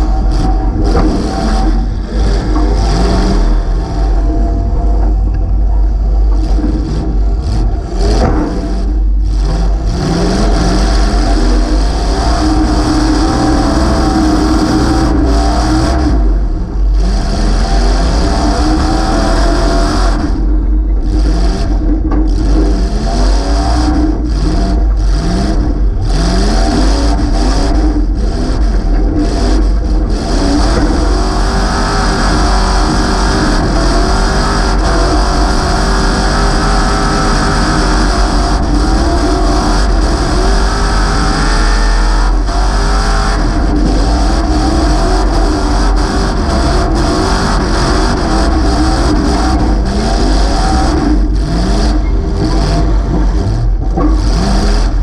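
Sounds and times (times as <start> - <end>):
loud car engine revving: 0.0 - 55.0.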